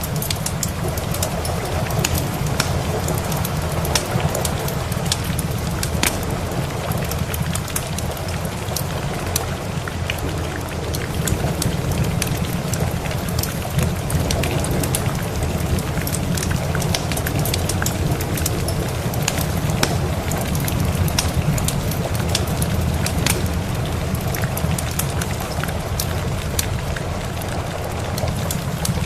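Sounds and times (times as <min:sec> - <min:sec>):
crackling wood fire: 0:00.0 - 0:29.0
steady rain: 0:00.0 - 0:29.0.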